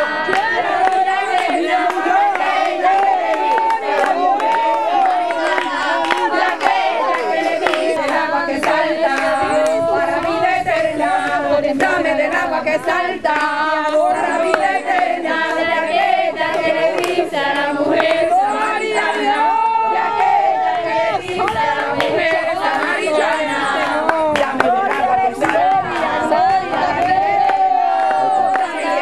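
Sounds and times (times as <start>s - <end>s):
hand-clapping: 0.0s - 19.6s, 21.1s - 29.0s
congregation singing: 0.0s - 29.0s.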